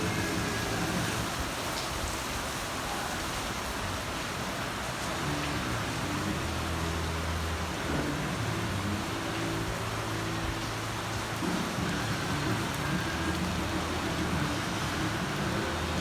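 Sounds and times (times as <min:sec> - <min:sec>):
heavy rain hissing: 0:00.0 - 0:16.0.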